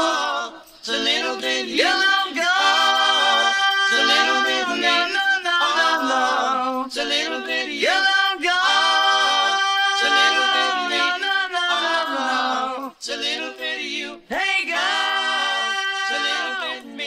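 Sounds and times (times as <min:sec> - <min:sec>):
man singing: 0:00.0 - 0:13.0, 0:14.2 - 0:17.0.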